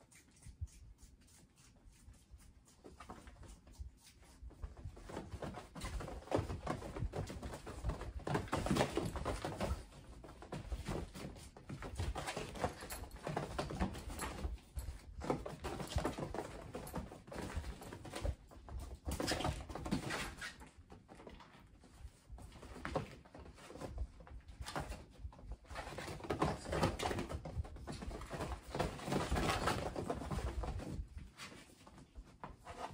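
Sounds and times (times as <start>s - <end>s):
kitten paws scuffling on fabric: 0.0s - 32.9s.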